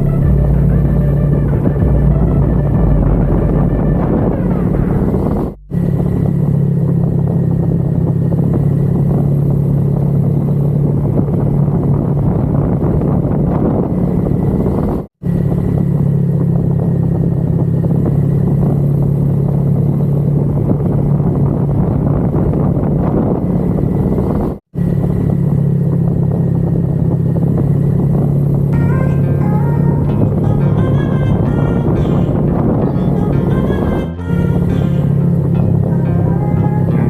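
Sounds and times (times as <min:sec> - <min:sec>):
motorcycle engine cruising: 0:00.0 - 0:37.0
wind and road noise: 0:00.0 - 0:37.0.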